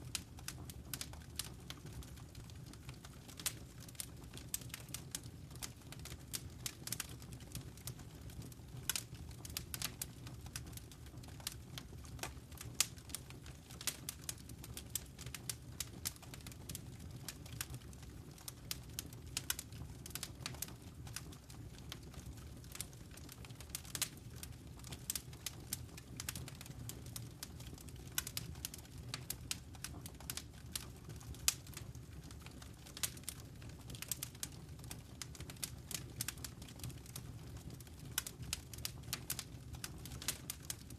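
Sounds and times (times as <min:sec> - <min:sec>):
low fire rumble: 0:00.0 - 0:40.9
wood fire crackling: 0:00.0 - 0:40.9.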